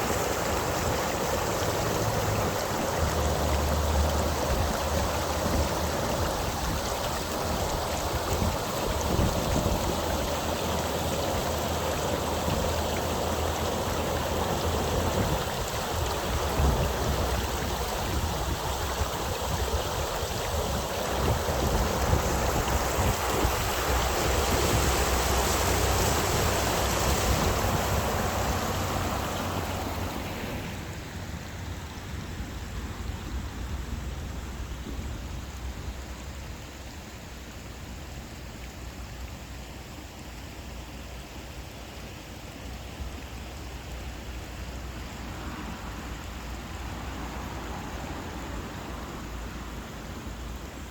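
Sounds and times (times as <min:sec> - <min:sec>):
waterfall falling water: 0:00.0 - 0:50.9.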